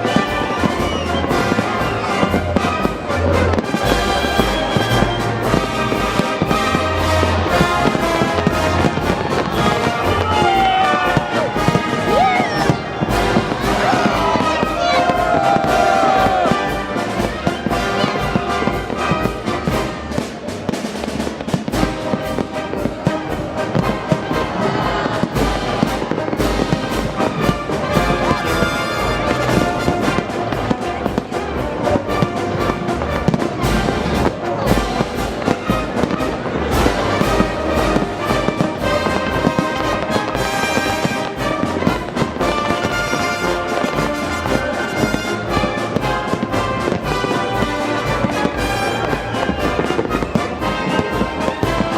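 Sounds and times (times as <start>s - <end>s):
brass-led orchestral music: 0.0s - 51.9s
fireworks bursting: 0.0s - 51.9s.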